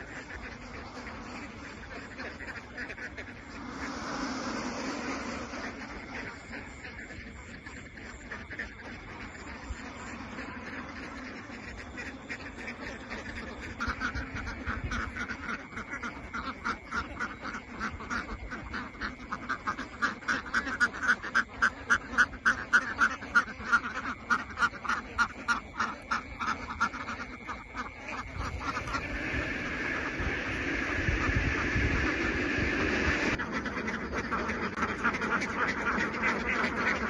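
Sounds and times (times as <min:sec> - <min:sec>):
flock of ducks quacking: 0:00.0 - 0:37.0.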